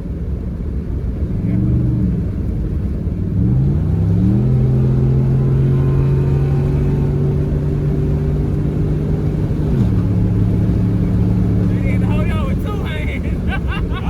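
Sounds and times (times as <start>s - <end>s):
car engine accelerating: 1.2s - 14.0s.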